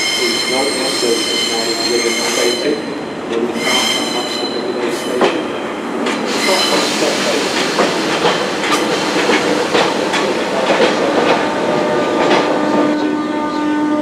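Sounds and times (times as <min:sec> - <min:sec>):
train wheels clicking on track: 0:00.0 - 0:13.0.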